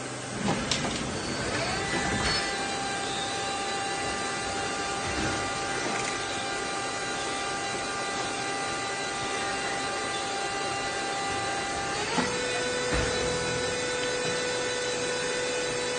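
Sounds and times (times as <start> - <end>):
machine hum: 0.0 - 15.9
thin machine whine: 0.0 - 15.9.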